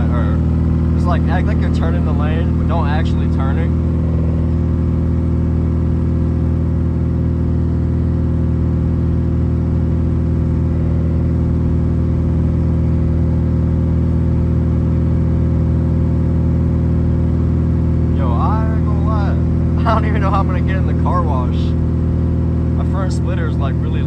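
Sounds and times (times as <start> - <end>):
car engine and exhaust drone: 0.0 - 24.0.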